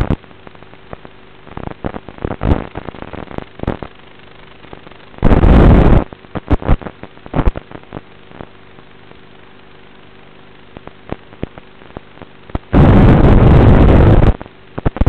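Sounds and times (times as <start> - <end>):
faint steady hum: 0.0 - 15.0
static crackling and bursts: 0.0 - 15.0.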